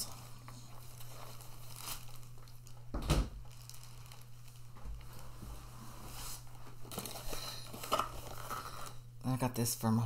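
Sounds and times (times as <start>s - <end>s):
plastic packaging rustling: 0.0s - 9.1s.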